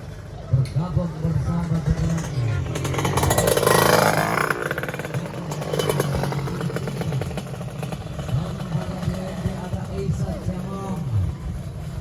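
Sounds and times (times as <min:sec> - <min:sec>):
motorcycle engine revving: 0:00.5 - 0:12.0.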